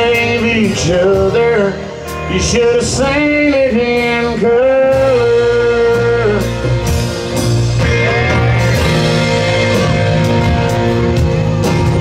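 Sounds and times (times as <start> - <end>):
country band playing: 0.0 - 12.0
electric guitar: 0.0 - 12.0.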